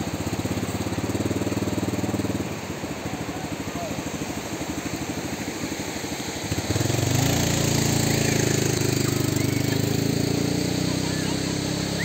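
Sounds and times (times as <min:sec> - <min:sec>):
jet ski engine revving: 0:00.0 - 0:12.0.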